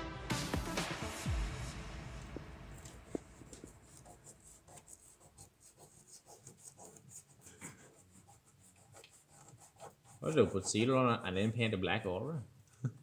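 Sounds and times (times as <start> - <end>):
faint scraping by hand: 2.2 - 12.8.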